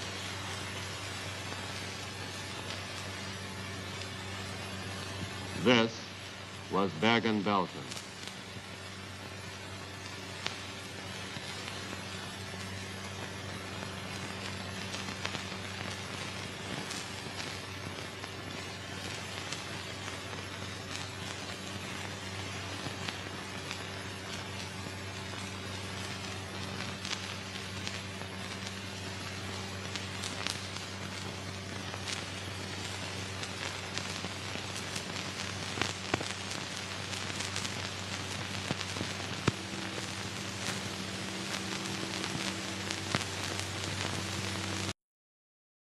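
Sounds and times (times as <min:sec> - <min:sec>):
crackles and pops: 0:00.0 - 0:45.0
film hiss: 0:00.0 - 0:45.0.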